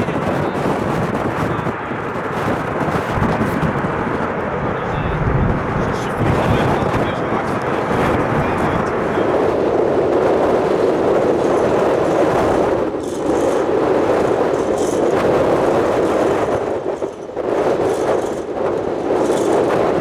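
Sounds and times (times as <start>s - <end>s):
airliner jet noise: 0.0s - 20.0s
wind on microphone: 0.0s - 20.0s.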